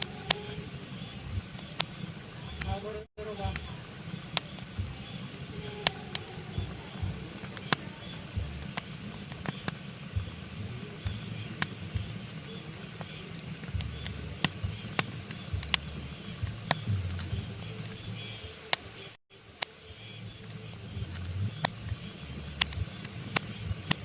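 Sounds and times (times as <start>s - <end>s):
flames rumbling and hissing: 0.0s - 24.0s
logs crackling and popping in fire: 0.0s - 24.0s.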